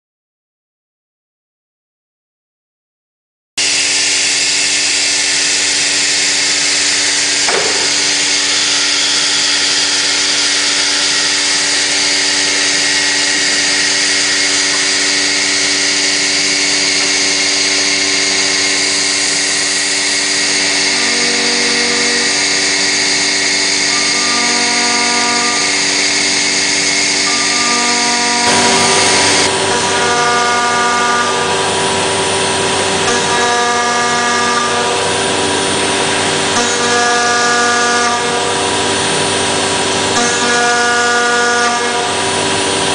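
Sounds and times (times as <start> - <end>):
machine cutting noise: 3.6 - 42.9
machine spindle whine: 3.6 - 42.9.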